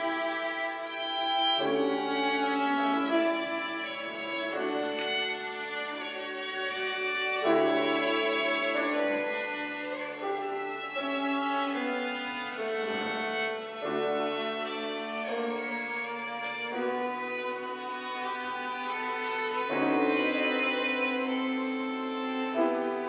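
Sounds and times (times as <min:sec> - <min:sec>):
low sustained cello: 0:00.0 - 0:23.0
piano: 0:00.0 - 0:23.0.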